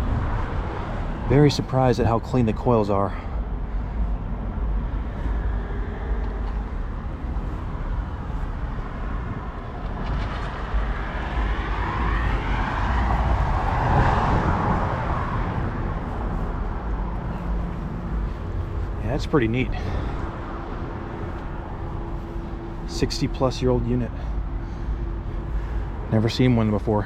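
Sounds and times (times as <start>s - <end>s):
traffic rumble: 0.0s - 27.0s
vehicle passing by: 0.0s - 27.0s.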